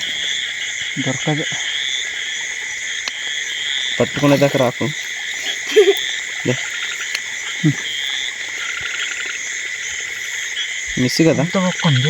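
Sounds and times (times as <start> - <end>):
frog croaking: 0.0 - 12.0
insect trill: 0.0 - 12.0.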